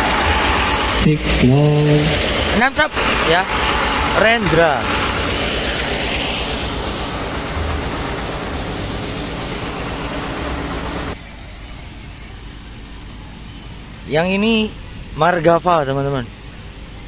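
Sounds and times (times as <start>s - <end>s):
broad rushing noise: 0.0s - 17.0s
engine running with low throb: 0.0s - 17.0s.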